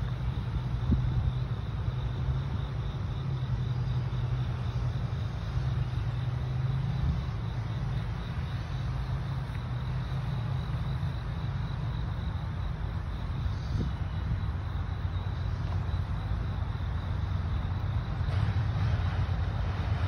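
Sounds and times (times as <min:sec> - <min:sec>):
wind buffeting microphone: 0:00.0 - 0:03.1, 0:07.0 - 0:20.0
distant train rumble: 0:00.0 - 0:20.0.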